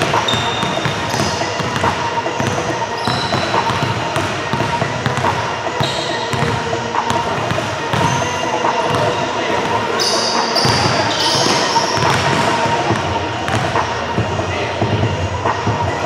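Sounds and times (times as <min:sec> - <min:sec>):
basketballs bouncing on wood floor: 0:00.0 - 0:09.8, 0:10.6 - 0:14.3
crowd chatter: 0:00.0 - 0:16.0.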